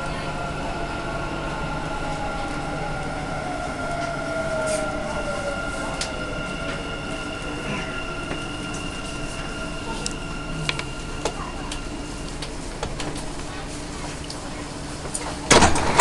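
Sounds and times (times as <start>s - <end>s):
train rumble and hum: 0.0s - 16.0s.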